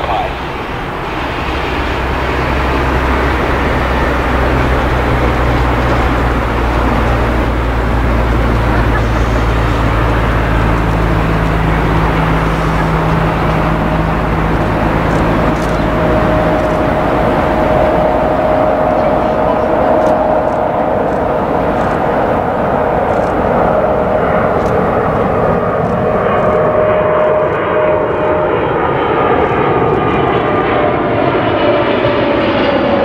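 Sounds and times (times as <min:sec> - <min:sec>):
high jet whine: 0:00.0 - 0:33.0
jet engine roar: 0:00.0 - 0:33.0.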